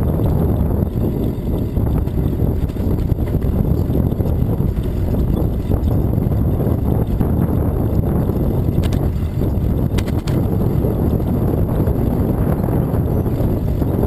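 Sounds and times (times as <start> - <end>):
bicycle rolling: 0.0 - 14.0
wind buffeting microphone: 0.0 - 14.0.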